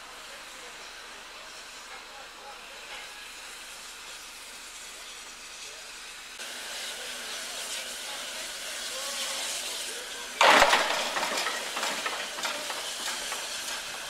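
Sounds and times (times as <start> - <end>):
loud steam blast: 0.0 - 14.0
steam locomotive hissing: 0.0 - 14.0.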